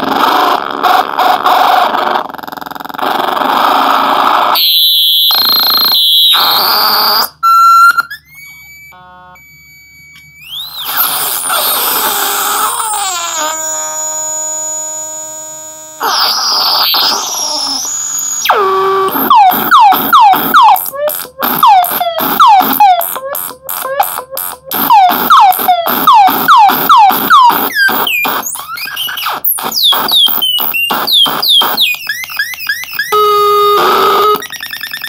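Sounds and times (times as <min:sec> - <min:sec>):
harsh synthesizer buzzing noise: 0:00.0 - 0:35.0
shrill electronic tones: 0:03.6 - 0:35.0.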